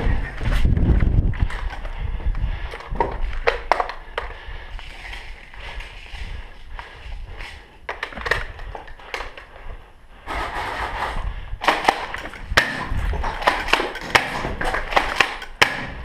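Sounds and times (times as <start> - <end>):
footsteps on rubble: 0.0 - 16.0
rubble crunching and cracking: 0.0 - 16.0.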